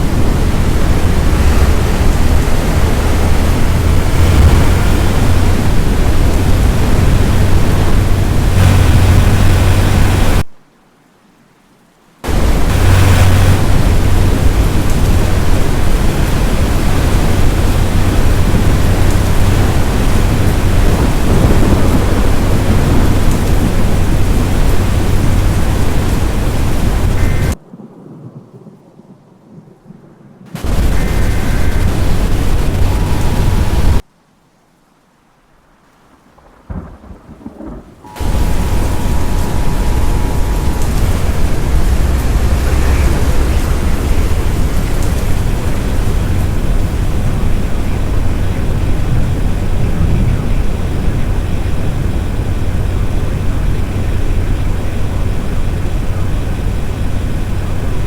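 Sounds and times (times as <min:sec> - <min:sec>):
wind buffeting microphone: 0:00.0 - 0:10.5, 0:12.2 - 0:34.0, 0:36.7 - 0:58.0
rain: 0:00.0 - 0:58.0.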